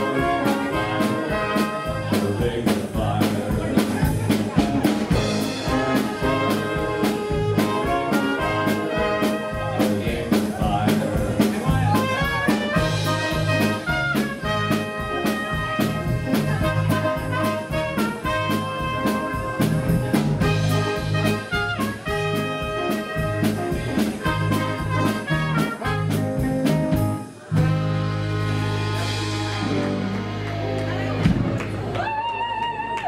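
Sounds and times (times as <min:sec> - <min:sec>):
live band playing instrumental: 0:00.0 - 0:32.1.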